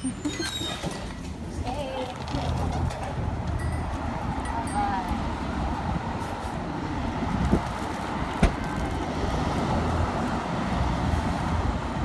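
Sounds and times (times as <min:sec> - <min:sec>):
car engine and road noise: 0:01.0 - 0:12.0.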